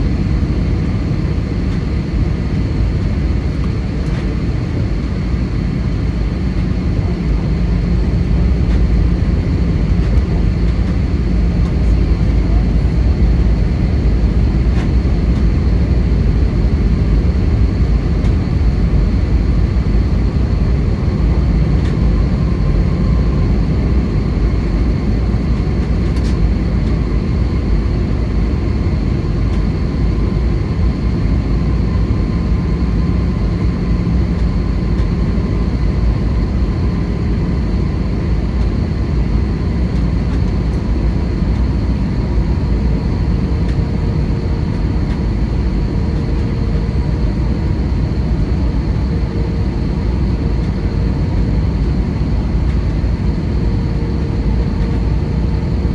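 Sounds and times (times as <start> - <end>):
aircraft cabin engine rumble: 0.0 - 55.9.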